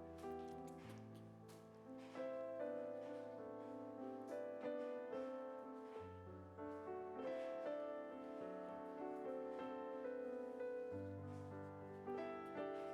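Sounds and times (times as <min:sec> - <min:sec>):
gentle piano melody: 0:00.0 - 0:12.9.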